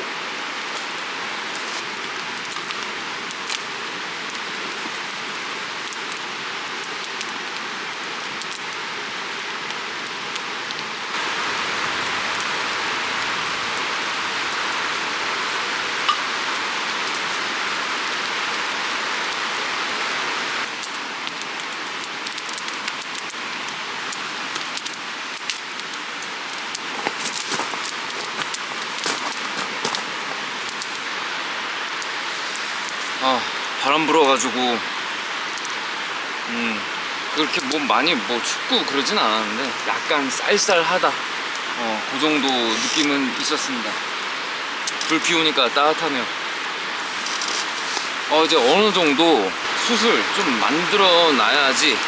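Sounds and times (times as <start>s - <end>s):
creek water rushing: 0.0s - 6.6s, 11.1s - 21.2s, 25.8s - 52.0s.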